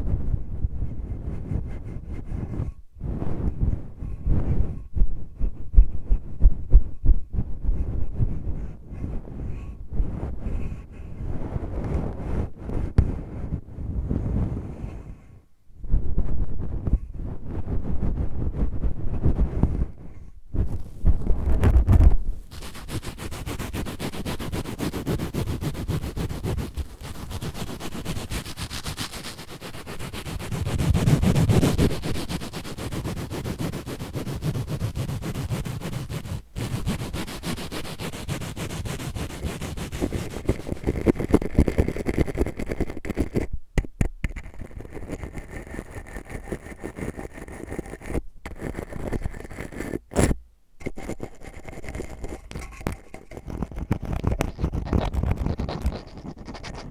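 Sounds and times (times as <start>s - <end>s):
brush scratching microphone: 0.0s - 15.2s, 15.9s - 56.9s
sponge scraping on microphone: 7.7s - 15.2s, 16.2s - 56.9s.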